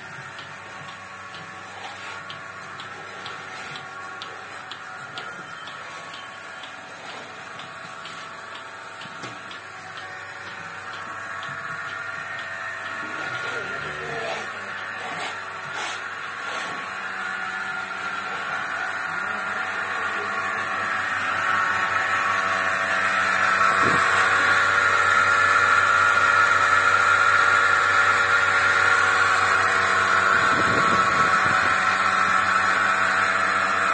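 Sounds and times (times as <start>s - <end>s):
vacuum pump running with hiss: 0.0s - 33.9s.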